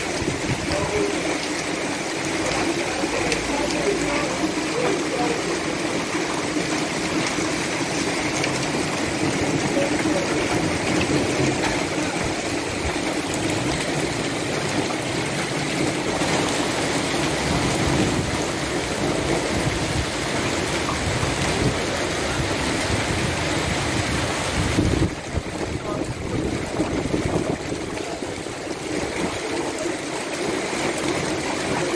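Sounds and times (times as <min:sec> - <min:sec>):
hail and heavy rain falling: 0:00.0 - 0:31.9.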